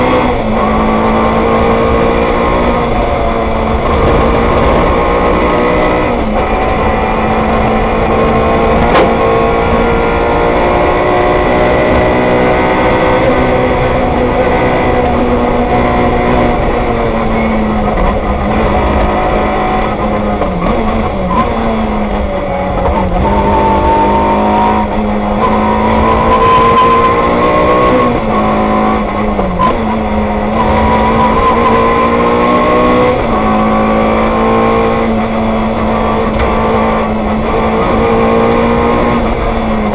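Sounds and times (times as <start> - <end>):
rally car engine revving: 0.0 - 39.9.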